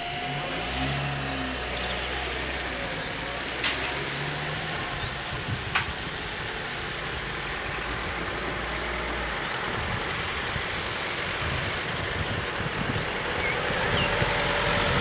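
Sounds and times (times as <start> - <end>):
low engine hum: 0.0 - 15.0
tyres hissing on wet road: 0.0 - 15.0.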